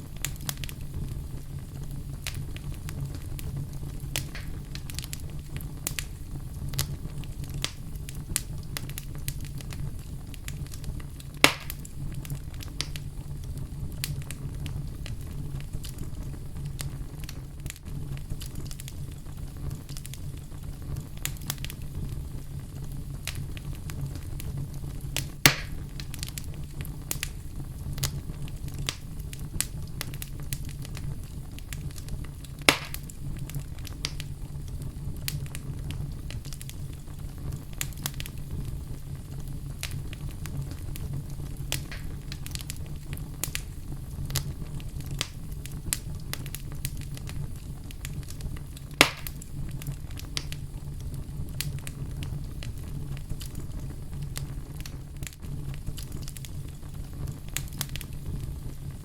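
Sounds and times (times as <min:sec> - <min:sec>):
fire crackles: 0:00.0 - 0:59.0
sharp fire pops: 0:00.0 - 0:59.0
wood fire rumbling: 0:00.0 - 0:59.0.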